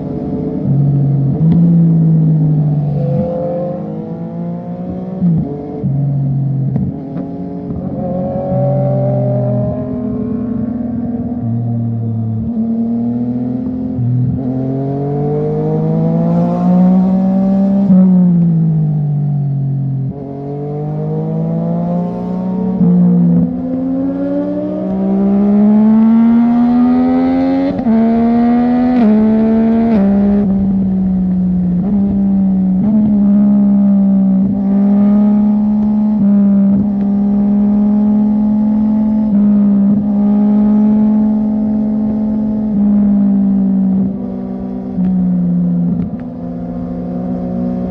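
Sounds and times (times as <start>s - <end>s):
motorcycle engine at speed: 0.0s - 47.9s.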